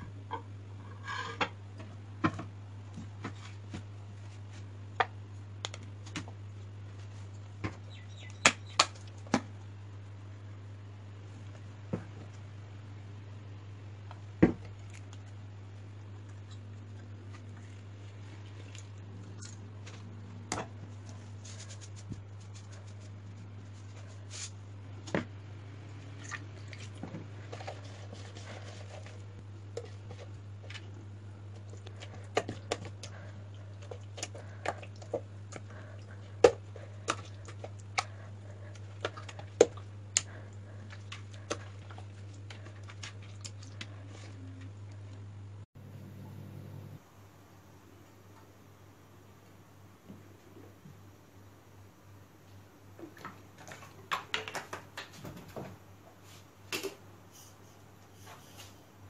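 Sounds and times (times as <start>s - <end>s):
steady low hum: 0.0s - 54.2s.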